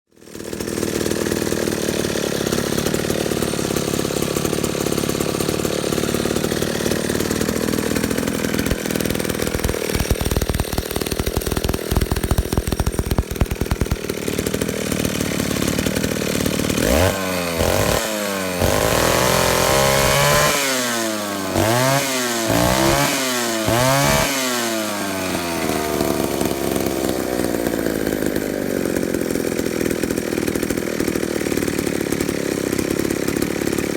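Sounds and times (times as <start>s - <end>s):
chainsaw engine revving: 0.1s - 33.9s.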